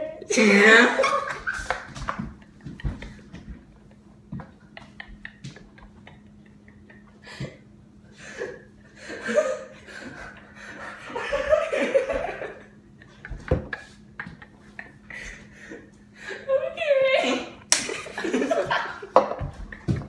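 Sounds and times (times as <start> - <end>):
people laughing: 0.4 - 20.0.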